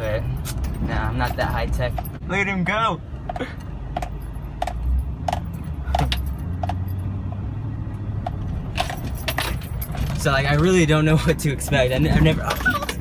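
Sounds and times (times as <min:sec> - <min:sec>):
loose items rattling in car: 0:00.0 - 0:07.0, 0:08.2 - 0:13.0
car engine and tyres rumbling: 0:00.0 - 0:13.0.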